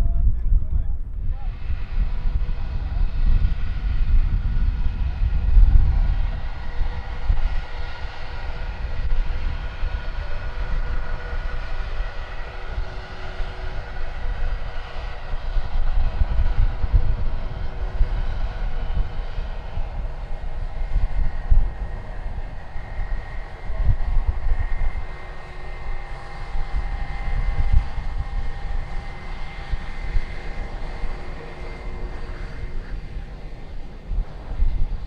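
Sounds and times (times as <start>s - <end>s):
jet engines whining: 0.9s - 35.0s.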